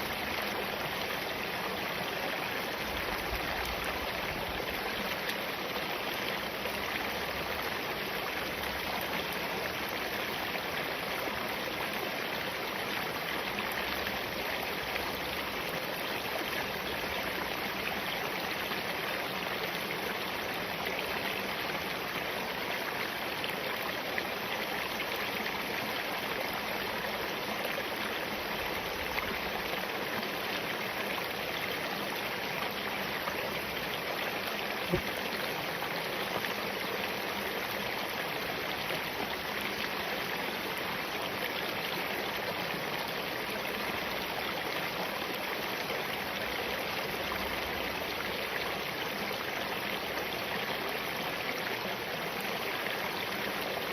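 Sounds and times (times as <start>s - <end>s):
stream water flowing over rocks: 0.0s - 53.9s.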